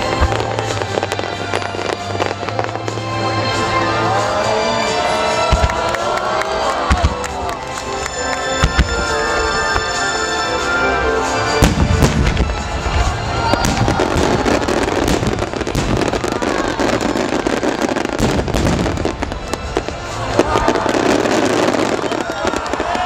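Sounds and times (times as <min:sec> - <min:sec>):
fireworks bursting and crackling: 0:00.0 - 0:23.0
music: 0:00.0 - 0:23.0.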